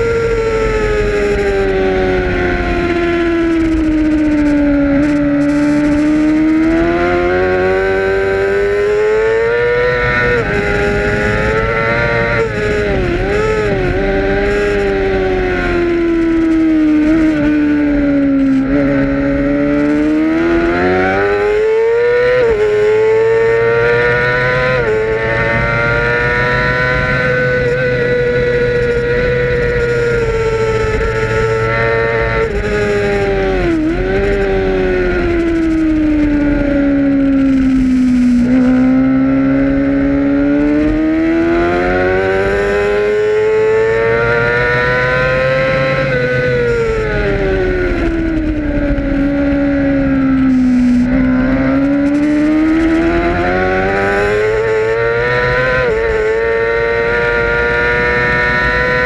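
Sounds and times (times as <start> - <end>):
racing motorcycle engine: 0.0 - 59.0
wind rushing past camera: 0.0 - 59.0.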